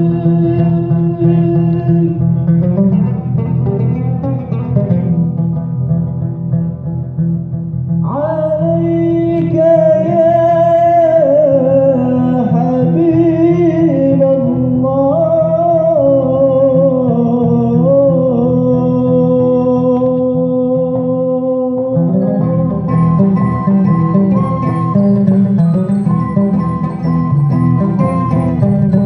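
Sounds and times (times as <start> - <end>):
person singing: 0.0 - 3.6, 8.0 - 29.0
acoustic guitar playing: 0.0 - 29.0.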